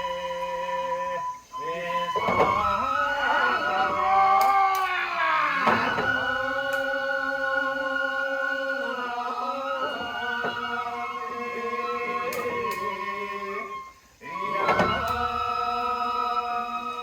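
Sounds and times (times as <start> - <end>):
voices chanting long notes: 0.0 - 17.0.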